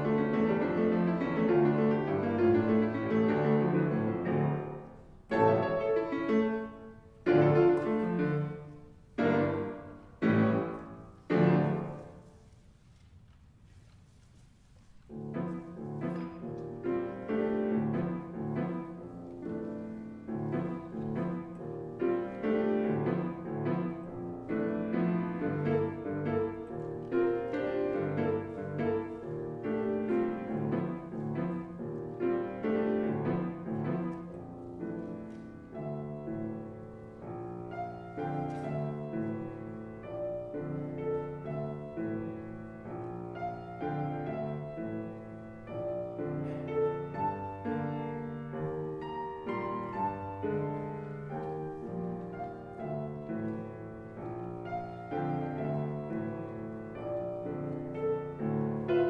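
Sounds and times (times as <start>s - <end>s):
solo piano playing: 0.0s - 12.3s, 15.1s - 59.0s.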